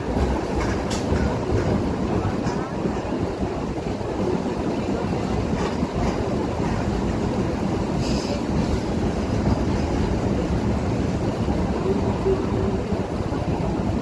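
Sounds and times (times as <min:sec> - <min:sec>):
train running rumble: 0:00.0 - 0:14.0
wind buffeting microphone: 0:00.0 - 0:14.0.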